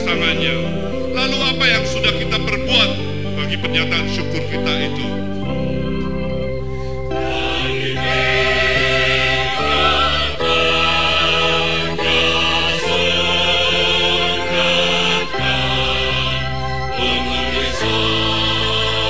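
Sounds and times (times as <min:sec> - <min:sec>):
choir singing a hymn: 0:00.0 - 0:19.0
organ chords: 0:00.0 - 0:19.0.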